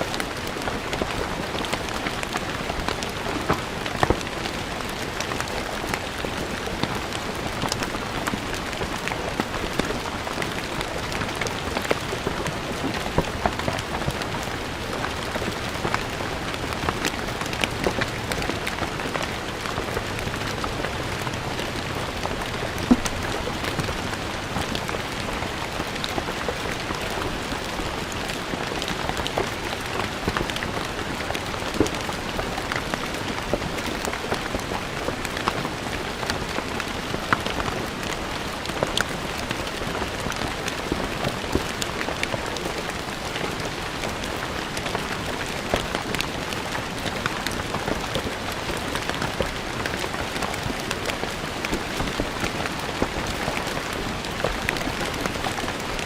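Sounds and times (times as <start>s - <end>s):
rain on stone paving: 0.0s - 56.0s.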